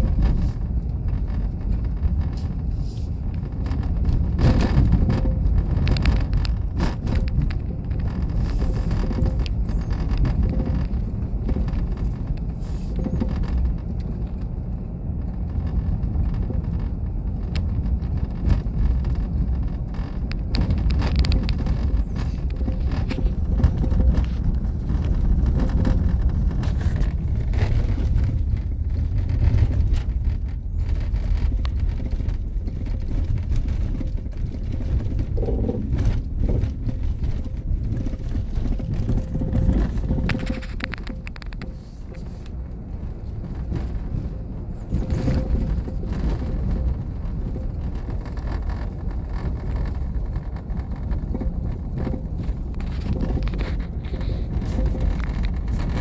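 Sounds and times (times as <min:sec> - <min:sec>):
tyre and body rumble: 0:00.0 - 0:56.0.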